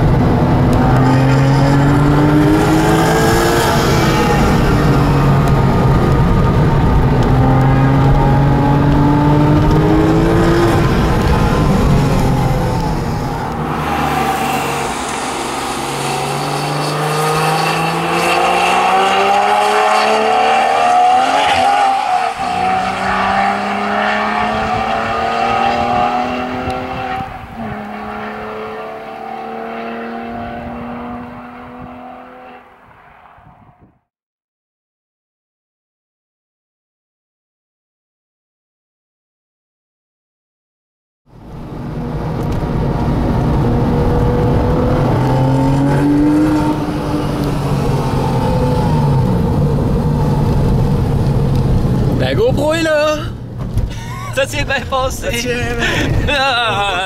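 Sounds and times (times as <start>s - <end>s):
car engine at full throttle: 0.0s - 33.4s, 41.3s - 57.0s.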